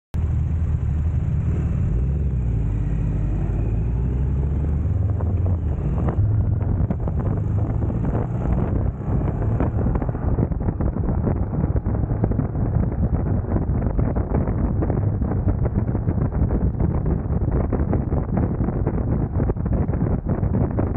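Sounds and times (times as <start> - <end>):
motorcycle engine rumbling: 0.2 - 20.9
wind buffeting microphone: 0.2 - 20.9.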